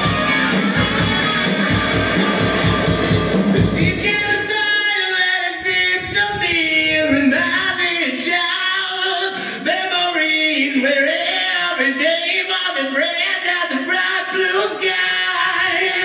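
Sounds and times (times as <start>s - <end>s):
voices singing: 0.0s - 16.0s.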